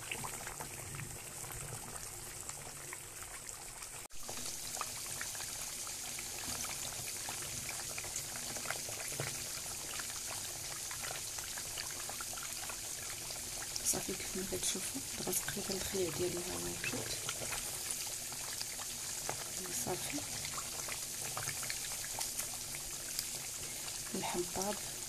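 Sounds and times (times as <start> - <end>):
meat sizzling and bubbling in fat: 0.0 - 25.0.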